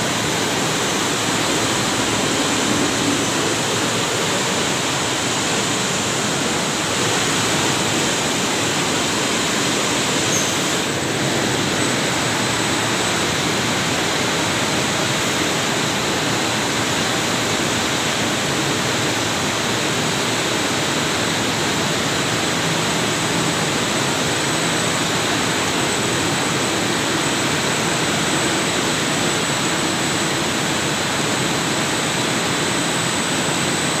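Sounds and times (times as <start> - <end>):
textile mill machinery din: 0.0 - 34.0.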